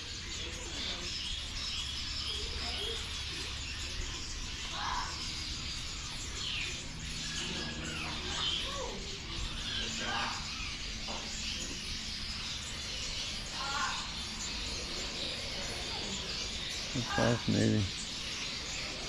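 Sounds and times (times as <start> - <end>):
birds chirping and calling: 0.0 - 19.0.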